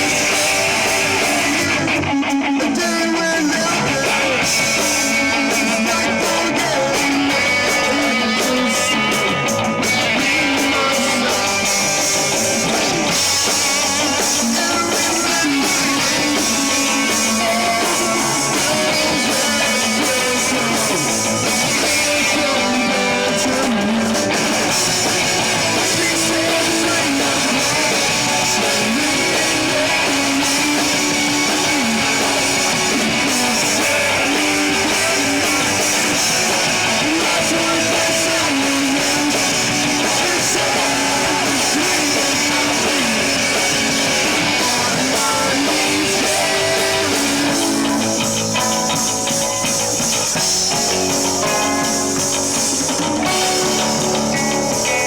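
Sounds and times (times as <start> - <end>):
drum kit: 0.0 - 55.0
electric guitars strumming: 0.0 - 55.0.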